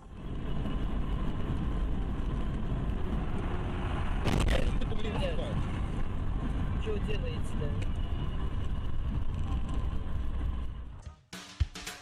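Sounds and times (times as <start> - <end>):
car driving on road: 0.0 - 11.1.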